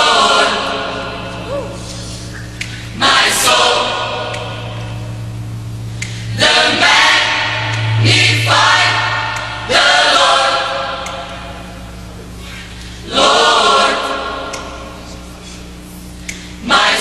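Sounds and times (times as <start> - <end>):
choir singing gospel: 0.0 - 17.0
steady low hum: 0.0 - 17.0.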